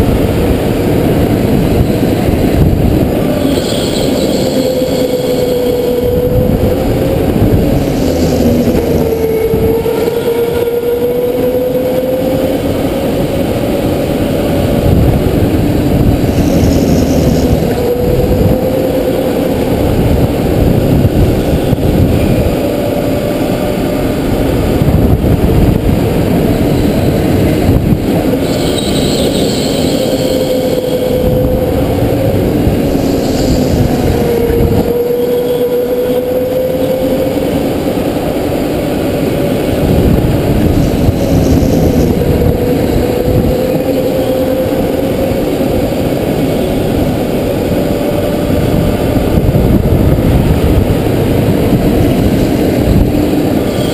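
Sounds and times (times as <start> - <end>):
rumble of vibration and track noise: 0.0 - 53.9.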